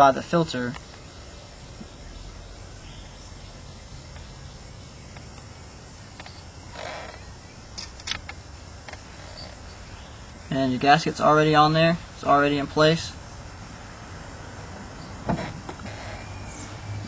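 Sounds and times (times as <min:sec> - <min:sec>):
faint insect chirping: 0:00.0 - 0:17.0
rustle: 0:00.0 - 0:17.0.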